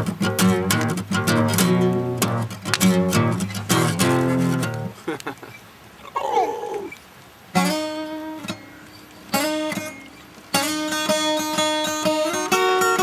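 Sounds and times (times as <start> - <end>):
acoustic guitar strumming: 0.0 - 5.0, 7.5 - 13.0.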